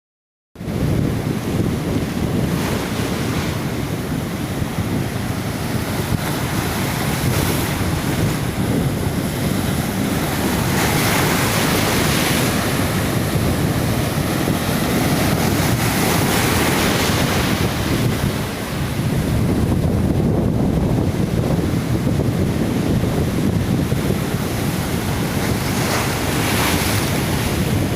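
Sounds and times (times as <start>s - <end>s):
sea waves breaking on shore: 0.6s - 27.9s
wind buffeting microphone: 0.6s - 27.9s.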